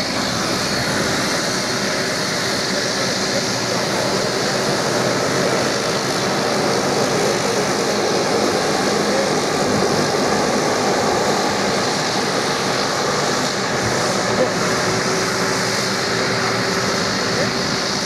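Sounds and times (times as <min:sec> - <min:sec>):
turboprop engine and propeller drone: 0:00.0 - 0:18.0.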